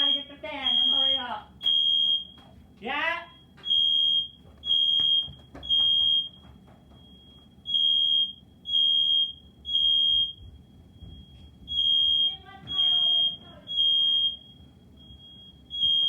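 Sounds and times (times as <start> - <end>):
faint steady alarm tone: 0.0 - 16.0
smoke alarm beeping: 0.0 - 16.0.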